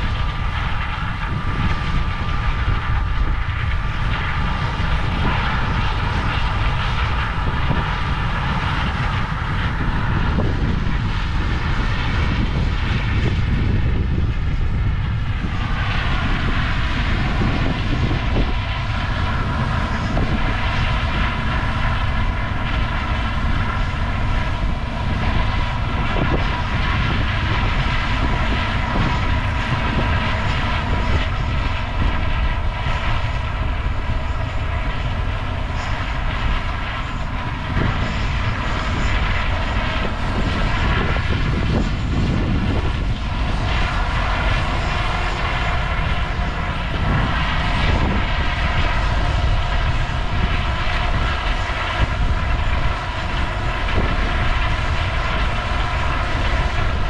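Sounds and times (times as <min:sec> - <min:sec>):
engine drone with held tones: 0:00.0 - 0:57.0
heavy low rumble: 0:00.0 - 0:57.0.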